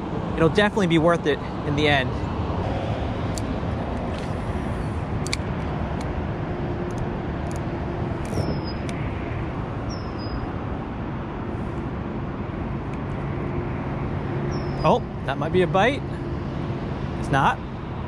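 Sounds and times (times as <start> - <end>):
highway traffic rumble: 0.0 - 18.0.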